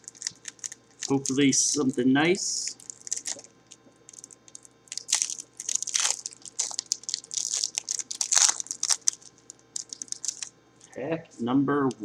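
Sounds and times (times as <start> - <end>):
card pack wrapper crinkling: 0.0 - 10.5.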